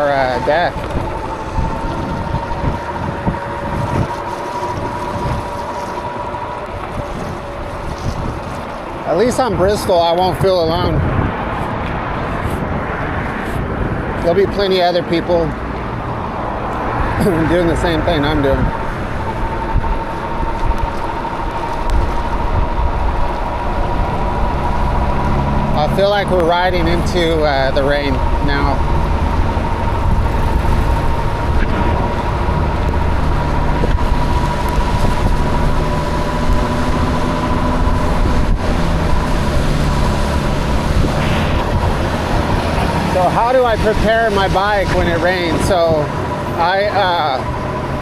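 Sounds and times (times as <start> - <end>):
hub motor whine: 0.0 - 48.0
tyres on wet road: 0.0 - 48.0
wind buffeting microphone: 0.0 - 48.0.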